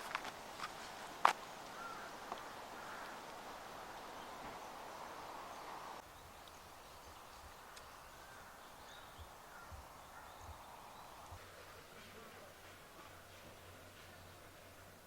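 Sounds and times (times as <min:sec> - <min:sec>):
distant bird calls: 0:00.0 - 0:15.0
steady hiss: 0:00.0 - 0:15.0.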